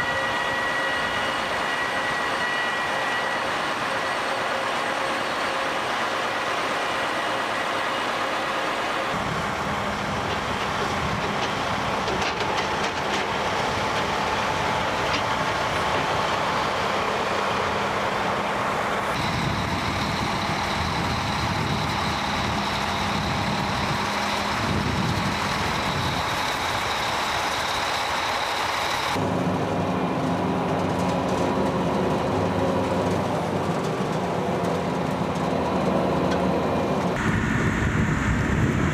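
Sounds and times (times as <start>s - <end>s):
dense rushing noise: 0.0s - 30.3s, 37.2s - 38.9s
heavy engine drone: 0.0s - 38.9s.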